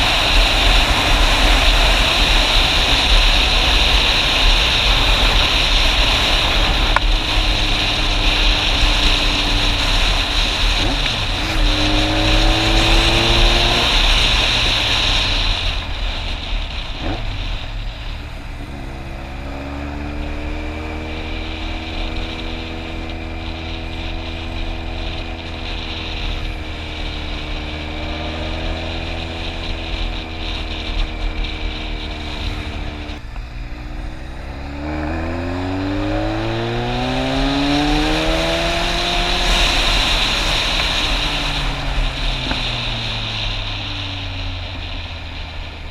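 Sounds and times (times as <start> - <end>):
motorcycle engine accelerating: 0.0 - 45.9
wind rushing over microphone: 0.0 - 45.9.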